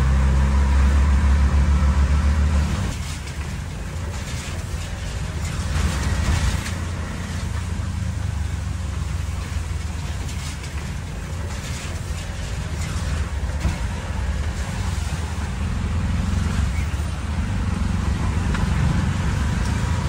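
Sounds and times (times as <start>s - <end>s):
rickshaw engine droning: 0.0s - 20.0s
wet road noise: 0.0s - 20.0s
heavy rain hissing: 2.6s - 20.0s.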